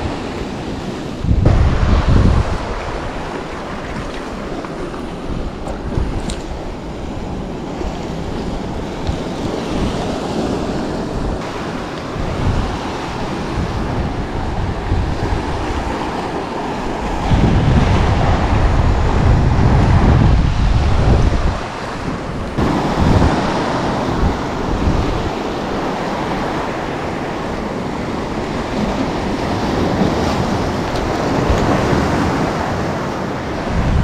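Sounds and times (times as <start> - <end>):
surf washing against shore: 0.0 - 34.0
wind on microphone: 0.0 - 34.0.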